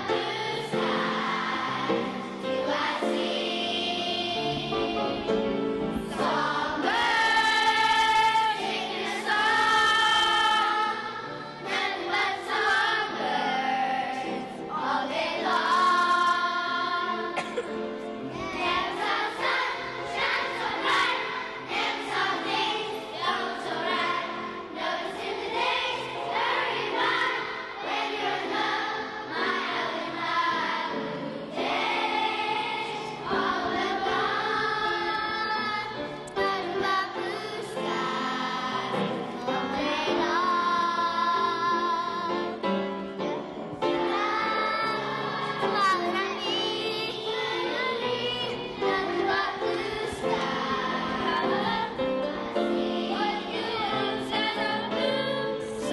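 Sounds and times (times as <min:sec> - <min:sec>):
children's choir singing: 0:00.0 - 0:55.9
piano accompaniment: 0:00.0 - 0:55.9.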